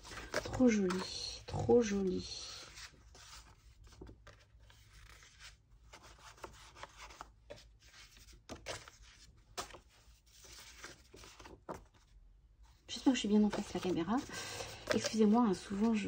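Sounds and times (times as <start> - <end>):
paper sheets rustling: 1.8 - 12.0, 13.1 - 16.0.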